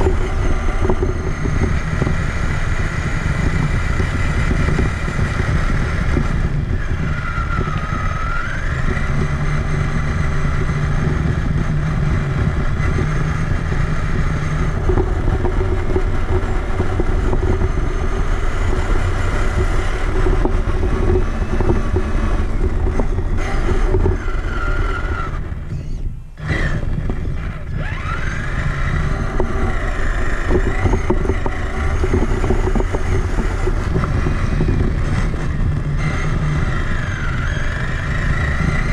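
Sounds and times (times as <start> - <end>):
electric motor and gearbox whine: 0.0 - 38.9
rumble from tyres and chassis: 0.0 - 38.9.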